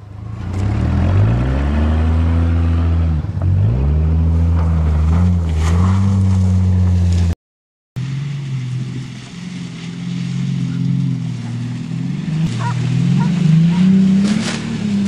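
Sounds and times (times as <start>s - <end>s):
car engine revving hard: 0.2s - 7.1s, 8.0s - 15.0s.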